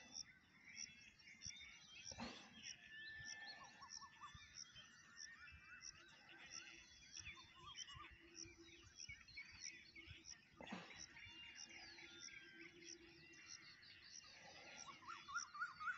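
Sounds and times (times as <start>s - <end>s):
birds chirping and warbling: 0.0s - 15.9s.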